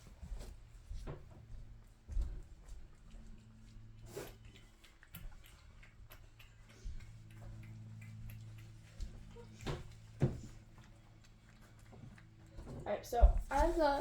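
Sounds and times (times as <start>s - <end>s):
cats chewing and licking: 0.0s - 14.0s.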